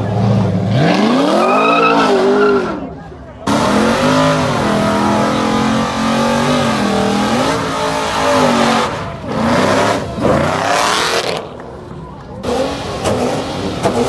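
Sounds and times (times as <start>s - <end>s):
car engine revving hard: 0.0s - 2.8s, 3.5s - 11.6s, 12.4s - 14.0s.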